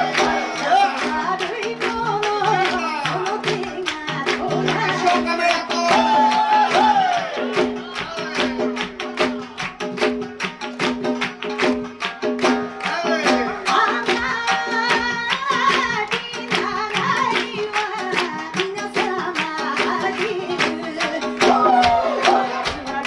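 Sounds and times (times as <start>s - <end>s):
rhythmic hand clapping: 0.0s - 23.0s.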